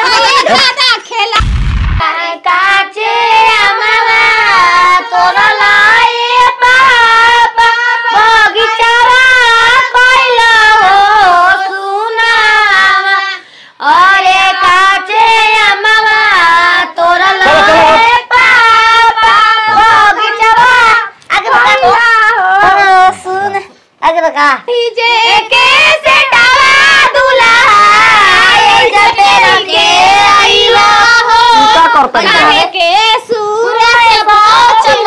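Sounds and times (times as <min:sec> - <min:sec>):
women singing folk song: 0:02.0 - 0:23.9, 0:24.7 - 0:35.0.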